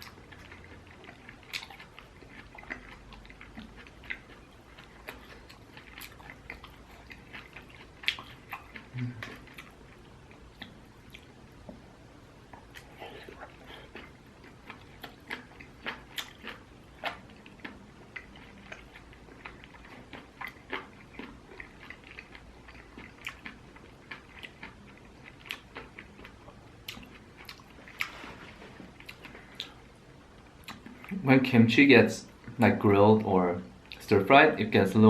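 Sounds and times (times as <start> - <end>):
chewing and crunching food: 0.0 - 31.3.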